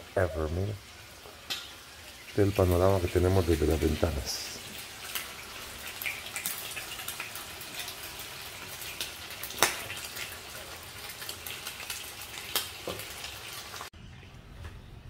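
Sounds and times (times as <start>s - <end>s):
food sizzling in skillets: 0.0s - 13.9s
sharp frying pops: 0.8s - 3.9s, 4.5s - 13.9s.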